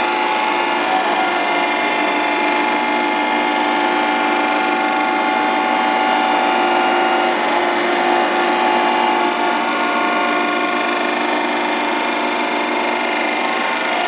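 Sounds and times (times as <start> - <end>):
surface grinder running: 0.0 - 14.0.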